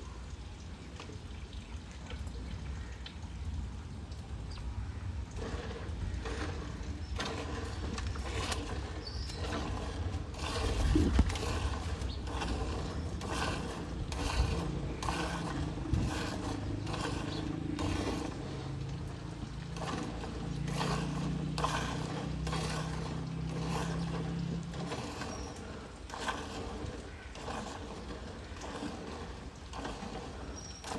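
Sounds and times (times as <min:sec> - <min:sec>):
low steady hum: 0:00.0 - 0:30.9
milk squirting into steel bucket: 0:05.0 - 0:30.9.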